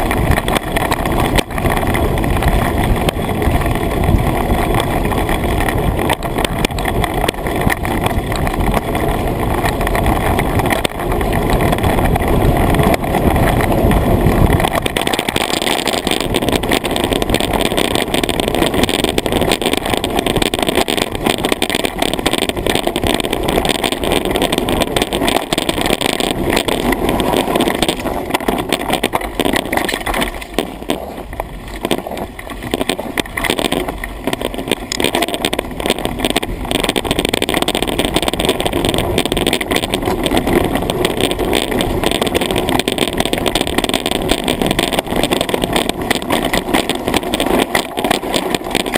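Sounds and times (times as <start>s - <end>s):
bike rattling: 0.0s - 48.9s
sharp knocks and clicks: 0.0s - 48.9s
tyres running on dirt: 0.0s - 48.9s
wind rushing over camera: 0.0s - 48.9s.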